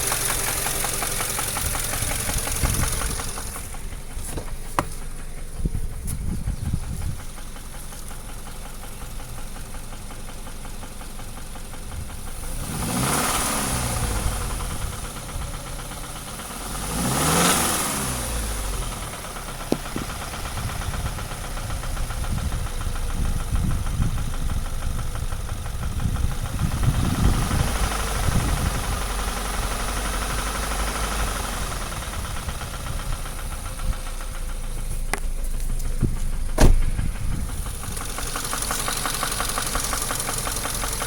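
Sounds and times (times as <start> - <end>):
engine revving: 0.0 - 4.8, 12.0 - 41.0
car engine idling with a knock: 0.0 - 12.8, 18.3 - 41.0.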